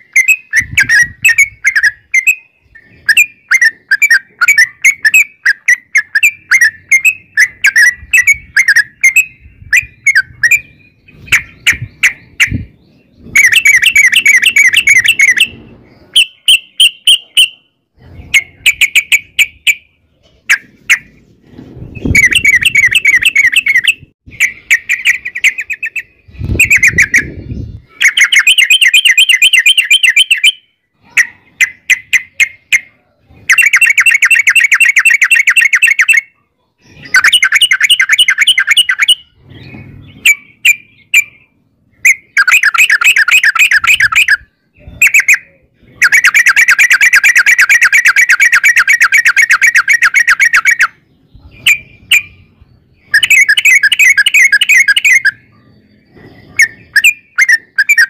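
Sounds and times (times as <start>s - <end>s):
bird chirps: 0.0s - 58.0s
bird singing rolling trills: 0.0s - 58.0s.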